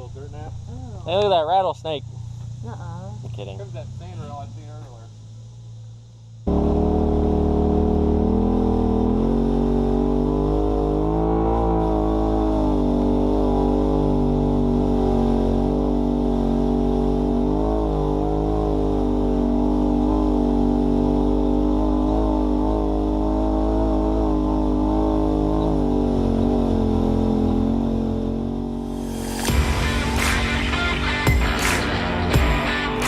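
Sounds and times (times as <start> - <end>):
off-road vehicle engine running: 0.0 - 33.0.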